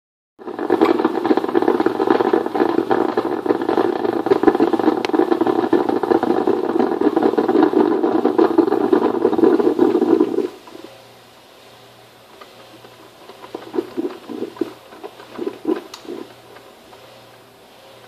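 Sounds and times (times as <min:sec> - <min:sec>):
coffee maker gurgling: 0:00.4 - 0:11.0, 0:12.3 - 0:17.1.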